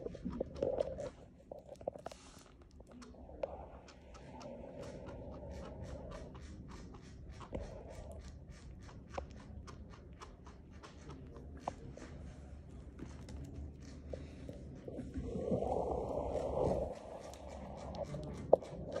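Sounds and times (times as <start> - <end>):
chinchilla chewing: 0.0 - 19.0.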